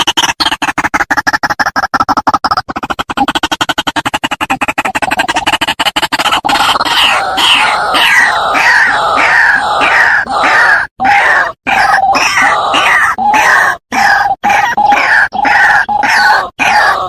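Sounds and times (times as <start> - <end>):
bird harsh croaking calls: 0.0 - 17.0.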